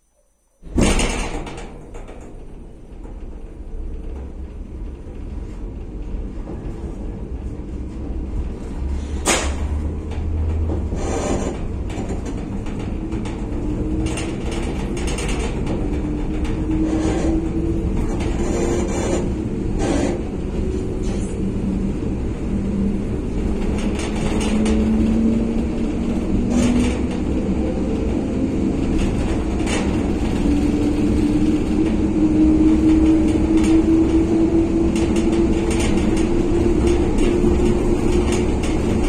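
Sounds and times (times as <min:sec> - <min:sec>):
train interior rumble: 0:00.6 - 0:39.0.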